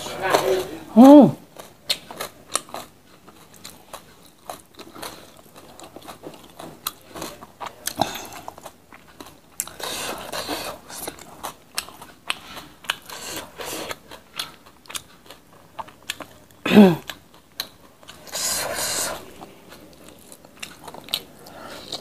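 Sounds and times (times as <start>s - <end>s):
food chewing and crunching: 0.0s - 22.0s.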